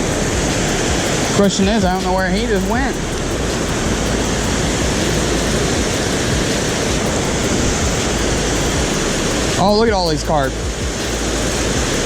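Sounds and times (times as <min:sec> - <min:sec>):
river water over waterfall: 0:00.0 - 0:12.0.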